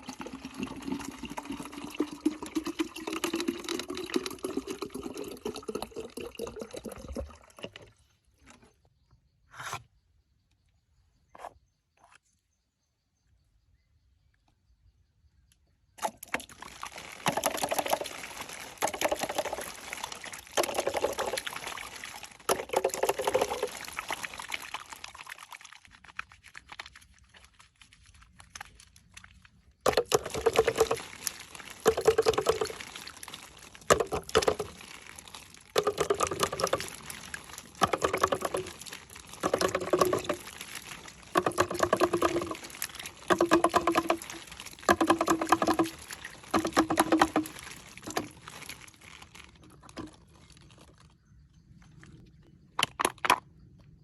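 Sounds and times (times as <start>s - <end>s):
water pouring: 0.0s - 8.7s, 16.0s - 52.4s.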